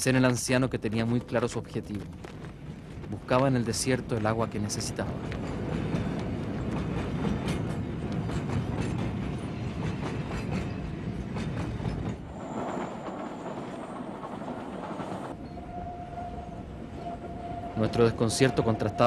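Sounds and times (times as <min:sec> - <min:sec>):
train rumbling on rails: 0:00.0 - 0:19.0
wheels clattering over rail joints: 0:00.1 - 0:15.7.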